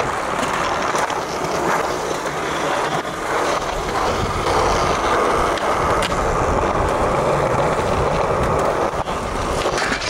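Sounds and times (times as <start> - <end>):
skateboard clicks: 0.0 - 10.0
skateboard wheels rolling on concrete: 0.0 - 10.0.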